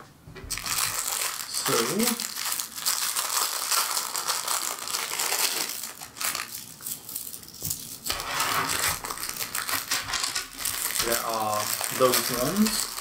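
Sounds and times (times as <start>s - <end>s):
plastic packet crinkling: 0.5s - 13.0s.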